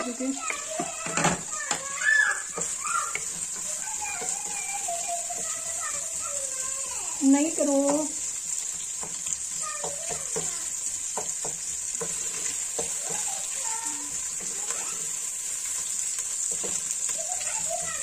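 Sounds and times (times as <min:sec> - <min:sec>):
wooden spoon scraping a pot: 0:00.0 - 0:06.8, 0:07.4 - 0:18.0
onion frying in oil: 0:00.0 - 0:18.0.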